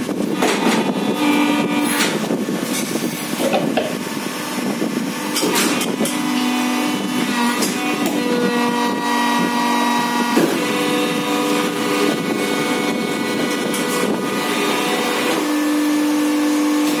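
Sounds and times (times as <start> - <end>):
machine whine: 0.0 - 17.0.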